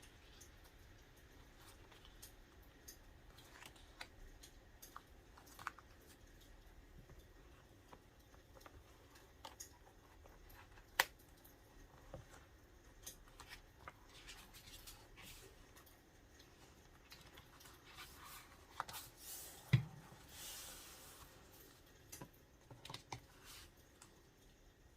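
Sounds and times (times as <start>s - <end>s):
light clicks and paper rustles: 0.0s - 24.2s.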